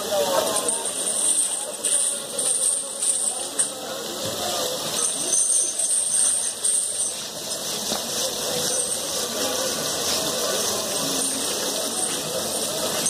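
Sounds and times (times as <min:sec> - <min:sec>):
water spraying and splashing: 0:00.1 - 0:13.0.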